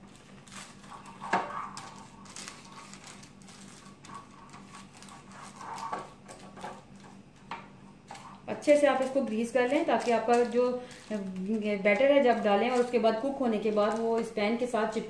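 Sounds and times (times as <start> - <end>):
paper crinkling: 0.0 - 7.3, 8.0 - 14.7.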